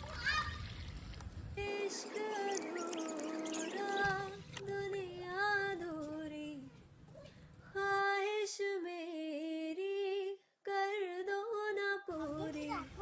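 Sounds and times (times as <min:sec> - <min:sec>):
woman singing wordless melody: 0:01.6 - 0:06.8, 0:07.7 - 0:13.0.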